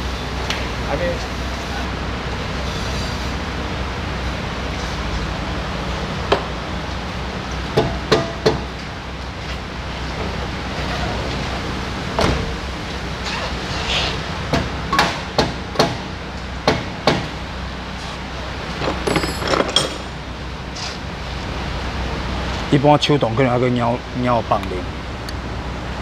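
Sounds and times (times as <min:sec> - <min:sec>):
workshop hum: 0:00.0 - 0:26.0.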